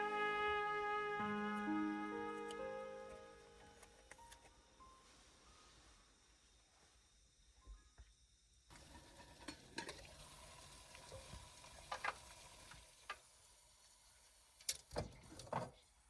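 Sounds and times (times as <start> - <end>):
faint sizzling hiss: 0.0 - 16.0.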